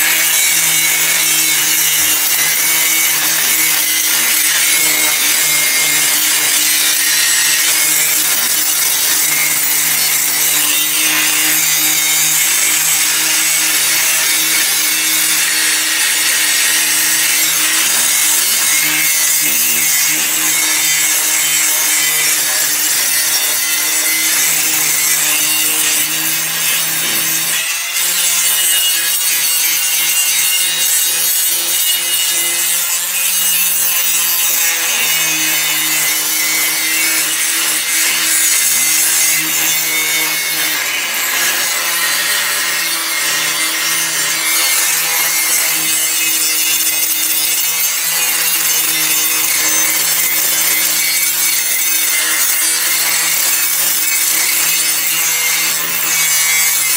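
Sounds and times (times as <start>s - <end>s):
angle grinder grinding metal: 0.0s - 56.9s.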